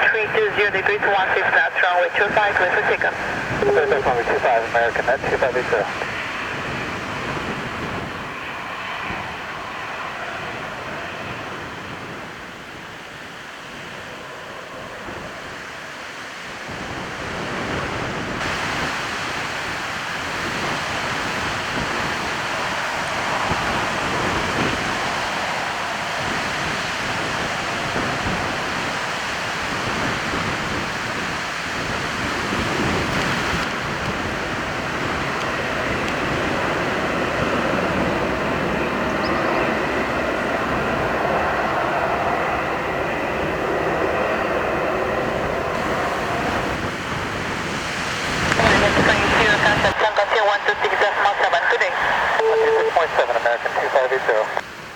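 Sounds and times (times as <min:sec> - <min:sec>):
jet engines rushing at takeoff: 0:00.0 - 0:54.9.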